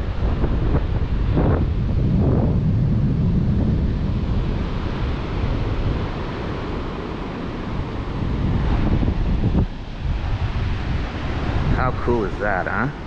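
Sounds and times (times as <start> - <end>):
ocean surf: 0.0 - 13.0
wind buffeting the microphone: 0.0 - 13.0.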